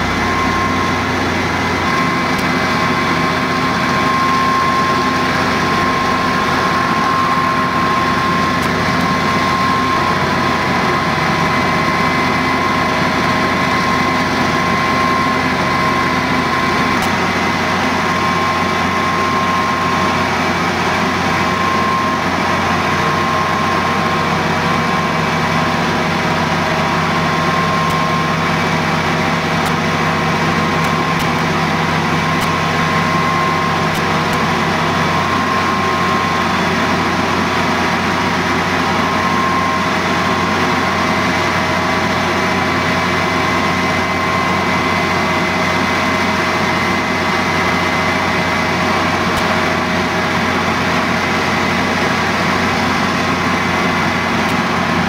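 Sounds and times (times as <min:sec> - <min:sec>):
fire engine droning: 0:00.0 - 0:55.0
pump whining tones: 0:00.0 - 0:55.0.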